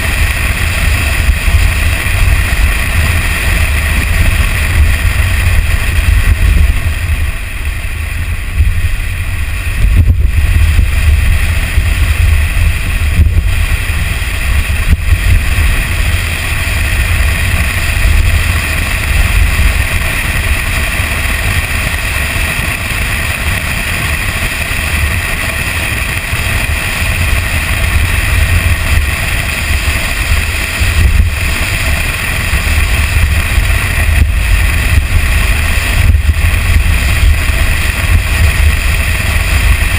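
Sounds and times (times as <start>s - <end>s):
truck engine and tyres: 0.0s - 39.9s
wind on microphone: 0.0s - 39.9s.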